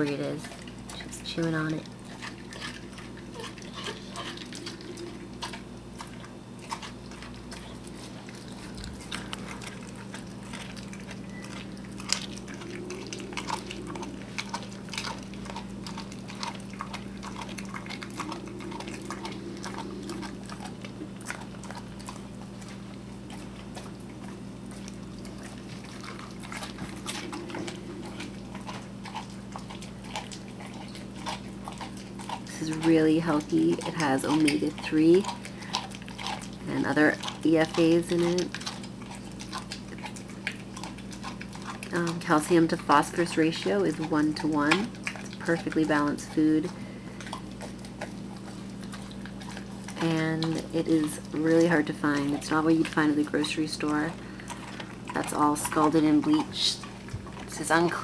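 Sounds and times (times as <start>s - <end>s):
dog chewing: 0.0s - 58.0s
steady low hum: 0.0s - 58.0s.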